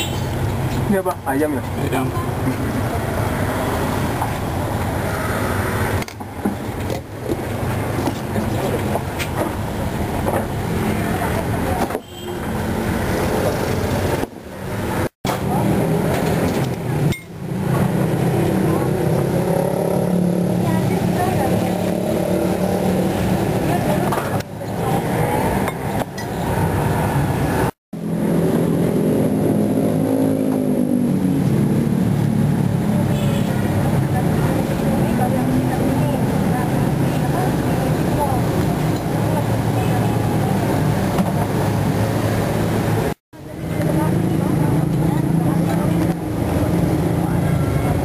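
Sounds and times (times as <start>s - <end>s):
road traffic noise: 0.0s - 48.0s.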